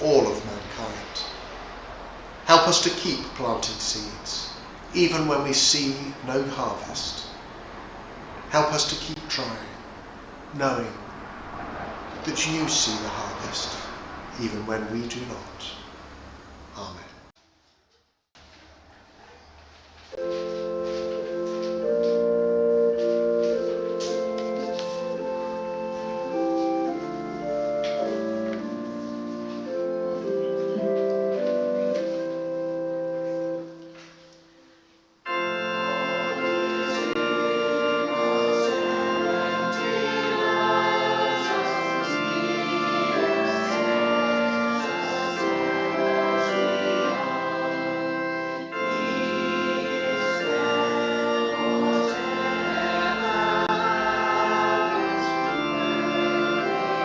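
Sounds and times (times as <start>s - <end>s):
church organ chords: 0.0s - 17.3s, 20.2s - 57.0s.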